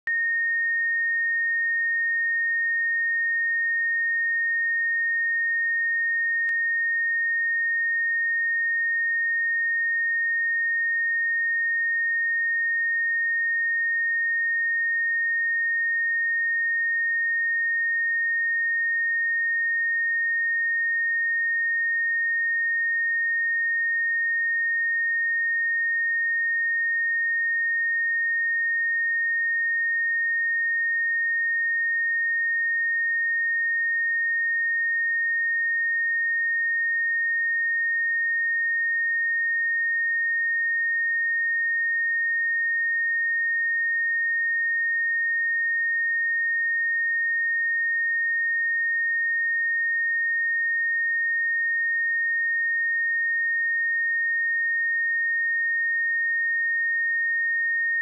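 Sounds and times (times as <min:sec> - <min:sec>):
high sine-wave test tone: 0:00.0 - 0:58.0.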